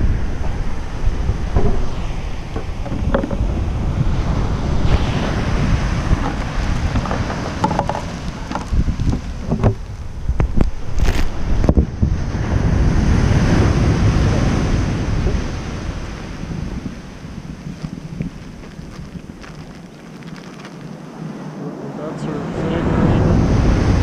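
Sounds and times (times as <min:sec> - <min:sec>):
ocean surf breaking on beach: 0:00.0 - 0:24.0
wind buffeting microphone: 0:00.0 - 0:24.0.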